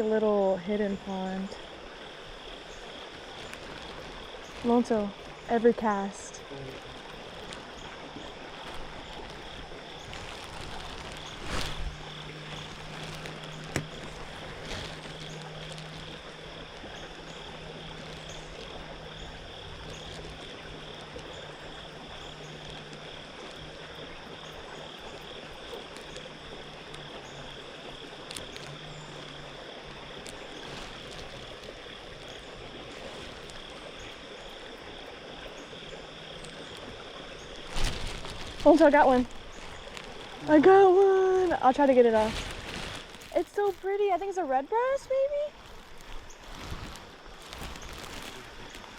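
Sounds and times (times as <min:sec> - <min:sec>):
frogs and insects chorus: 0:00.0 - 0:48.9
light rain hiss: 0:00.0 - 0:48.9.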